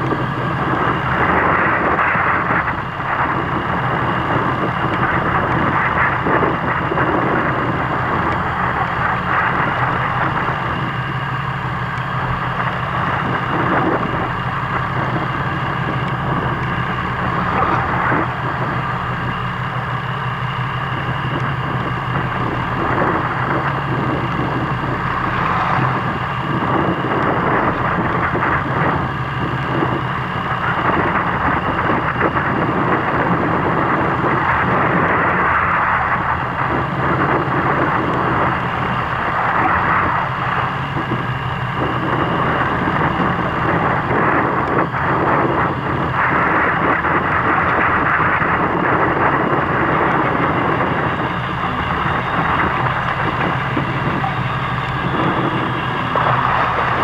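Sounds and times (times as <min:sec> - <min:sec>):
boat engine running: 0:00.0 - 0:57.0
constant rushing noise: 0:00.0 - 0:57.0.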